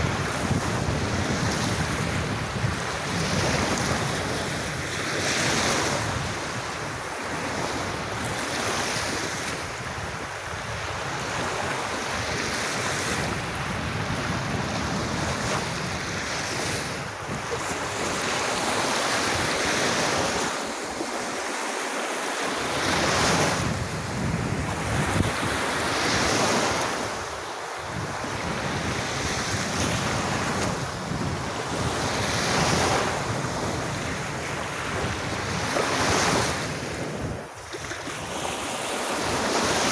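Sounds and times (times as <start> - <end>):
wind on microphone: 0.0 - 21.6, 22.5 - 39.9
surf breaking on a beach: 0.0 - 39.9.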